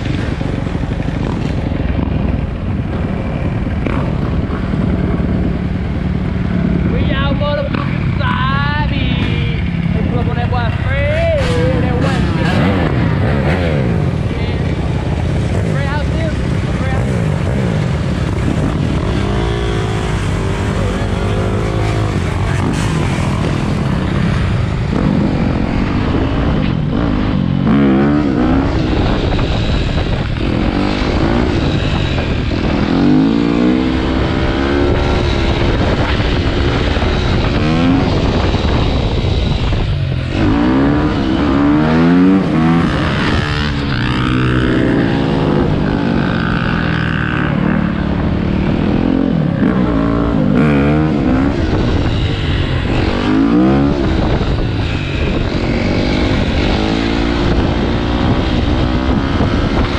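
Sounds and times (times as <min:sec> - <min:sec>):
wind on microphone: 0:00.0 - 0:59.9
dirt bike engine revving: 0:09.2 - 0:59.9.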